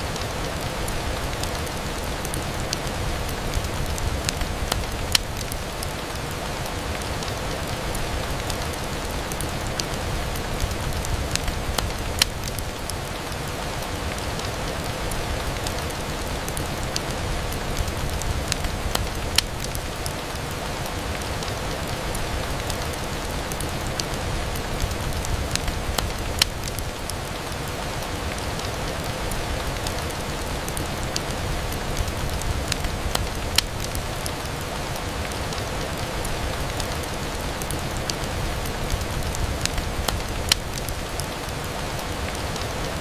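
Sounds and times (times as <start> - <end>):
rain on a window: 0.0 - 43.0.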